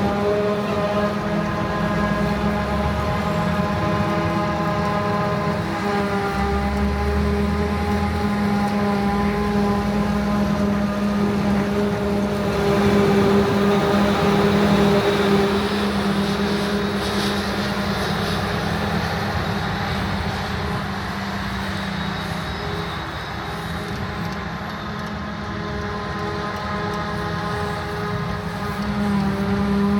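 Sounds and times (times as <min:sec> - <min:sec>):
diesel engine of farm machinery: 0:00.0 - 0:29.9.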